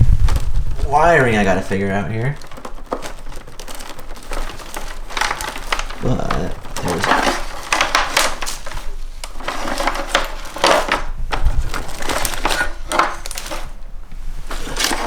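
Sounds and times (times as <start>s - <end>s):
parts being handled: 0.0s - 15.0s.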